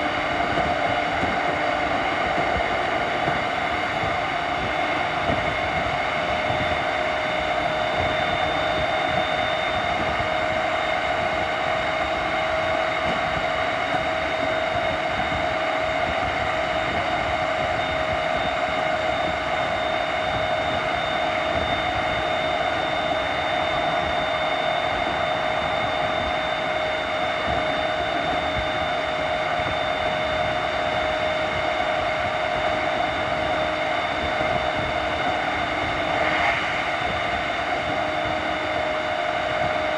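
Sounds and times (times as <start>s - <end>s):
steady electric drive whine: 0.0s - 39.9s
train rolling noise: 0.0s - 39.9s.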